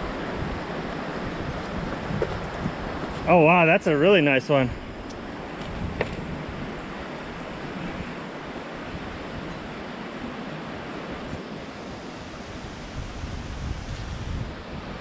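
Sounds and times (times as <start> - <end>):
wind buffeting microphone: 0.0 - 3.6, 4.6 - 15.0
rushing wind: 0.0 - 15.0.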